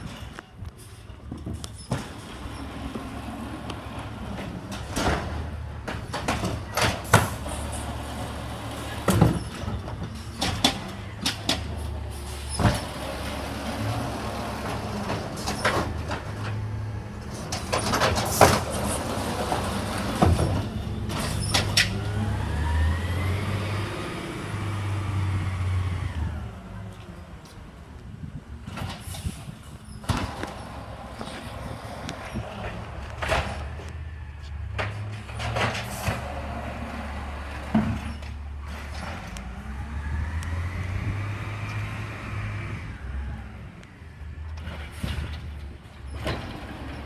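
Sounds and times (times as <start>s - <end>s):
diesel engine droning: 2.0s - 28.7s, 29.5s - 47.0s.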